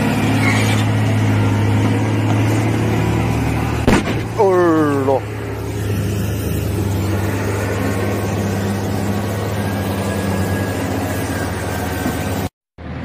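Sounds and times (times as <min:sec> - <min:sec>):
truck diesel engine humming: 0:00.0 - 0:13.0.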